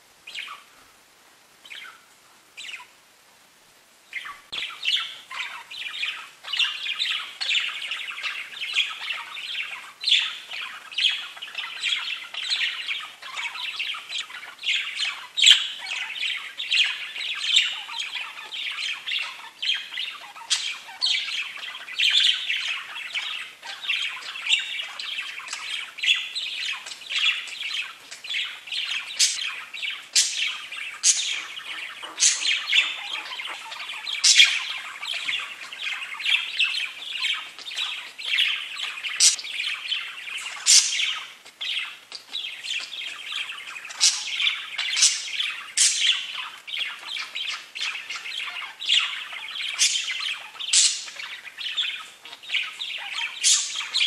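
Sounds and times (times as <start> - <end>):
budgies chirping and warbling: 0.2 - 0.8, 1.6 - 3.0, 4.1 - 54.0.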